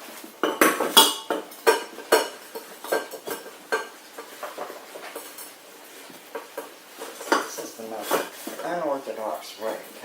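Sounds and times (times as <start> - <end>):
kitchenware clattering: 0.0 - 9.9.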